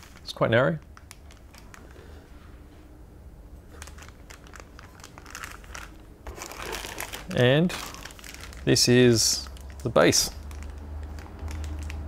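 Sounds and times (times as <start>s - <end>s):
plastic bag crinkling: 0.0s - 2.2s, 3.6s - 12.0s.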